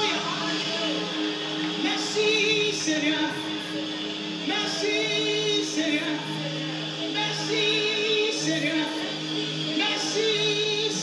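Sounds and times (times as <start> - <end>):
backing vocalists: 0.0 - 11.0
lead singer: 0.0 - 11.0.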